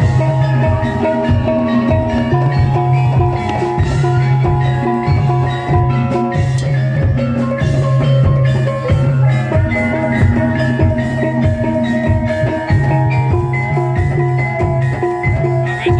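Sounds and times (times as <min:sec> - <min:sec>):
gong-chime metallophones ringing: 0:00.0 - 0:15.9
hand drum strokes: 0:00.0 - 0:15.9.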